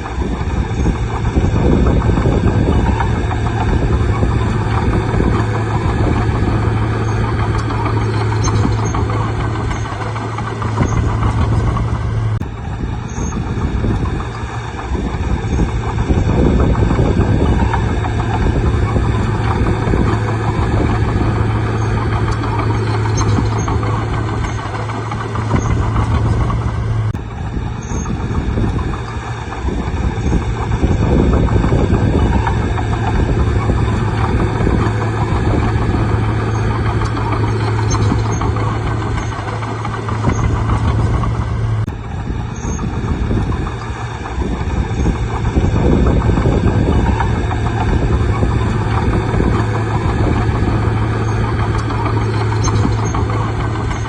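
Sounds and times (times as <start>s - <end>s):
bulldozer diesel engine humming: 0.0s - 54.0s.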